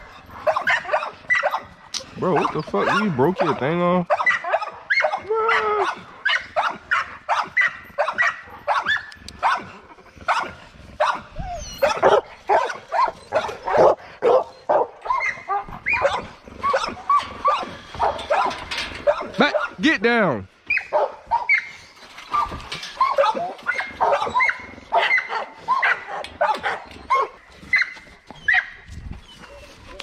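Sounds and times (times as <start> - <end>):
dogs barking: 0.0 - 20.0, 20.7 - 28.8.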